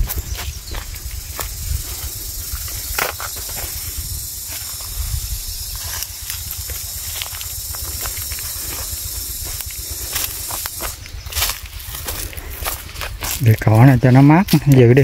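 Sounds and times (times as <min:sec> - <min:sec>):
footsteps through dry leaves: 0:00.0 - 0:15.0
steady high hiss: 0:00.0 - 0:15.0
wind buffeting microphone: 0:00.0 - 0:15.0.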